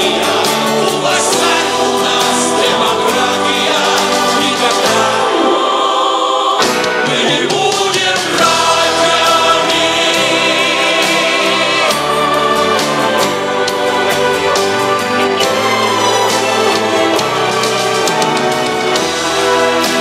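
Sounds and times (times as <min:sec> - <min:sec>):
band with drums: 0:00.0 - 0:05.3, 0:06.6 - 0:20.0
voices singing together: 0:00.0 - 0:20.0.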